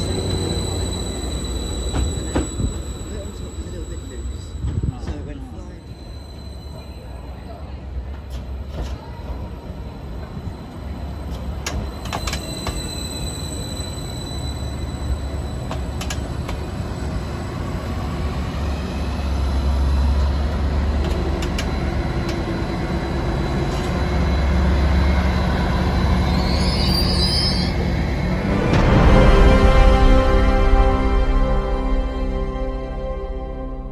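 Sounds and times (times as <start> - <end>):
train wheel and rail rumble: 0.0 - 33.9.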